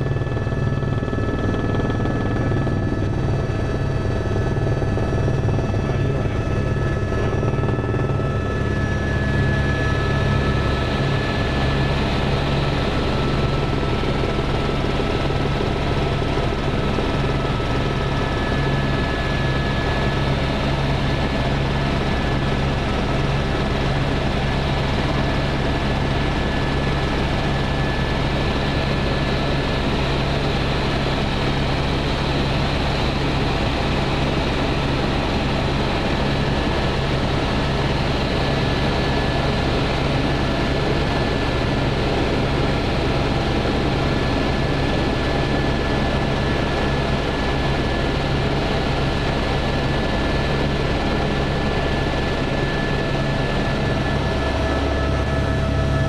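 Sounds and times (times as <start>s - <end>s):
helicopter rotor and engine drone: 0.0s - 56.0s.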